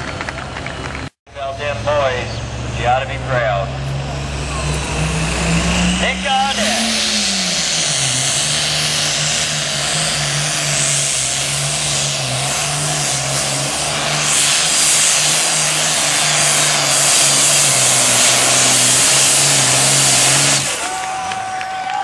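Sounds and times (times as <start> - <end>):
diesel tractor engine at high revs: 0.0 - 22.0.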